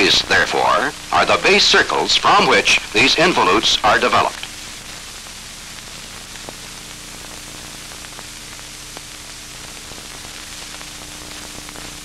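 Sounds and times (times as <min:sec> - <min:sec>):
faint crackles and clicks: 0:00.0 - 0:12.0
low steady hum: 0:00.0 - 0:12.0
steady hiss: 0:00.0 - 0:12.0.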